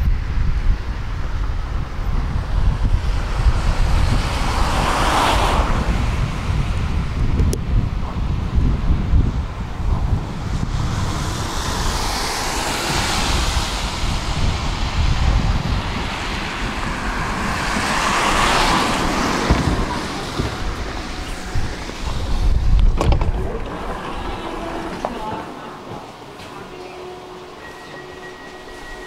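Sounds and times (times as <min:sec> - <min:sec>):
passing street traffic: 0:00.0 - 0:29.0
tram running: 0:00.0 - 0:29.0
wind buffeting microphone: 0:00.0 - 0:29.0.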